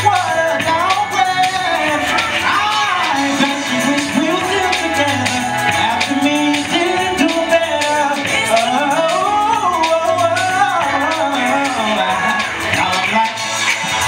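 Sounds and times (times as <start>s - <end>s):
beat with a bass line: 0.0s - 14.0s
man singing into a microphone: 0.0s - 14.0s.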